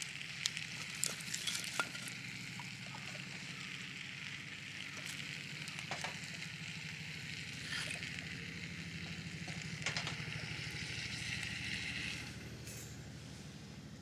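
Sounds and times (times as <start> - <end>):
sharp crackles: 0.0 - 12.4
steak sizzling: 0.0 - 12.4
low steady hum: 0.0 - 14.0.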